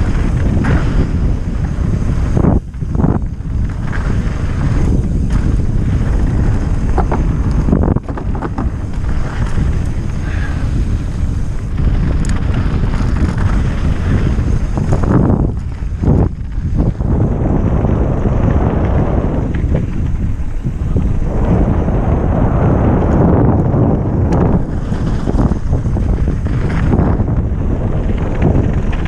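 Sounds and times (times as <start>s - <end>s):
tyres rumbling on dirt trail: 0.0s - 29.0s
wind buffeting microphone: 0.0s - 29.0s.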